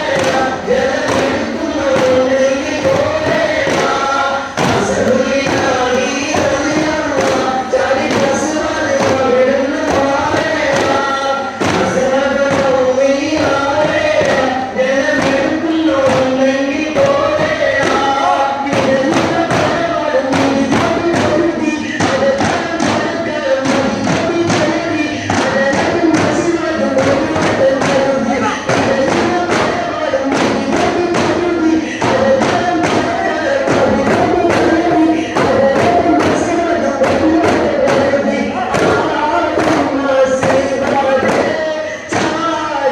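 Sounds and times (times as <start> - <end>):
frame drums beating: 0.0 - 42.9
group chanting in unison: 0.0 - 42.9.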